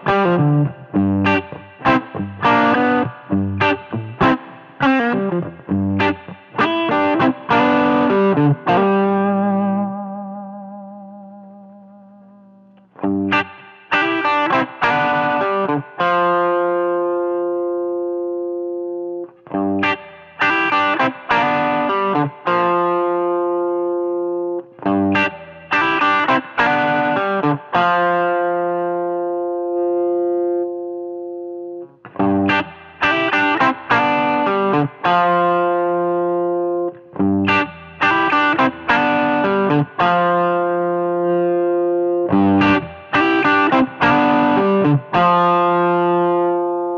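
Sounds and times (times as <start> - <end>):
overdriven electric guitar chords: 0.0 - 46.9.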